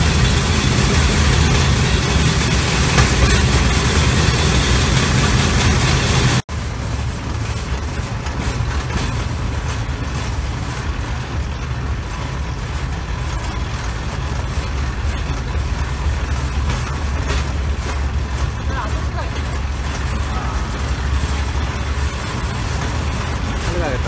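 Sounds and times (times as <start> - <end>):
steel wheels rolling on rails: 0.0 - 24.0.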